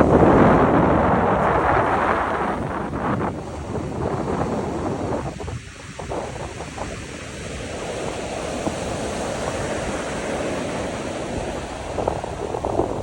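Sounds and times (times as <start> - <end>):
sea surf washing in: 0.0 - 13.0
strong wind: 0.0 - 13.0
wind buffeting microphone: 0.0 - 13.0.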